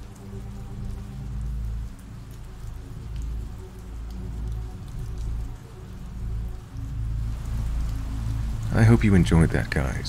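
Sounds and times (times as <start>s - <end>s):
raindrop ticks: 0.0s - 10.0s
steady rain hiss: 0.0s - 10.0s.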